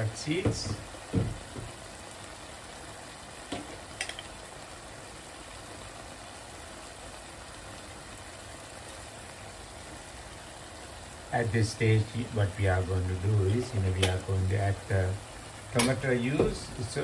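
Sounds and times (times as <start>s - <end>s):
onions sizzling in a pan: 0.0s - 17.0s.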